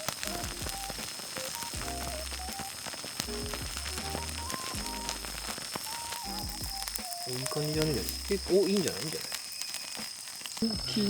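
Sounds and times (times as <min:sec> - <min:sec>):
soft background music: 0:00.0 - 0:09.2
campfire crackling and popping: 0:00.0 - 0:11.0.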